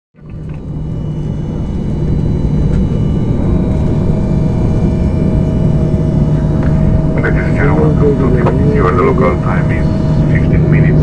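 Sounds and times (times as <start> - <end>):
airliner cabin engine rumble: 0.2 - 11.0
faint steady high tone: 0.2 - 11.0.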